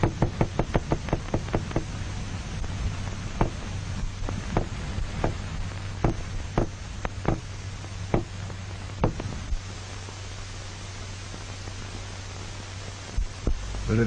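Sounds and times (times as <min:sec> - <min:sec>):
film soundtrack hum and hiss: 0:00.0 - 0:14.0.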